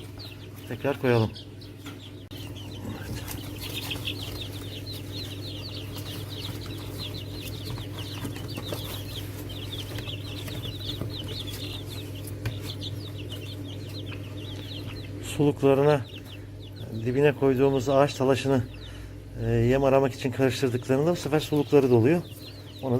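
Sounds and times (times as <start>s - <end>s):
chicks peeping: 0.0s - 22.9s.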